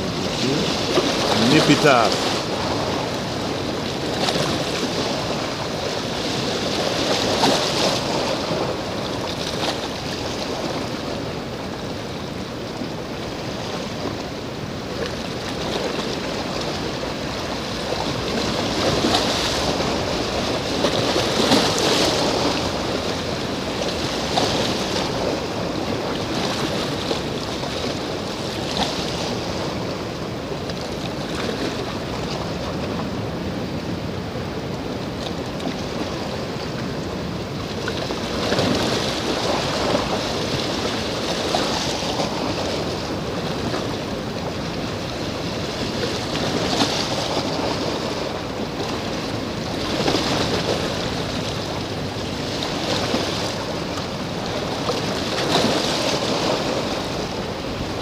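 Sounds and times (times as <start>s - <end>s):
small waves at shoreline: 0.0s - 58.0s
wind: 0.0s - 58.0s.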